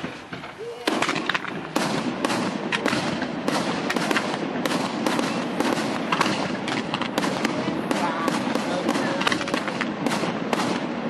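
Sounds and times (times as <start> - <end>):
continuous background noise: 0.0 - 11.0
firework shells bursting: 0.0 - 11.0.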